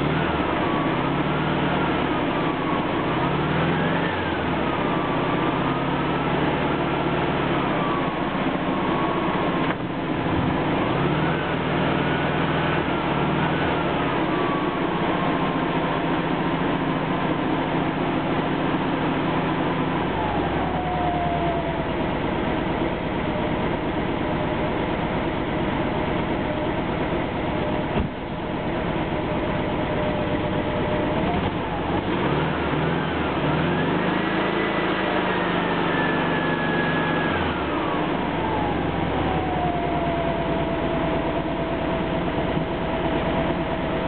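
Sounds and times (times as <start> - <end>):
car engine revving and idling: 0.0 - 44.0.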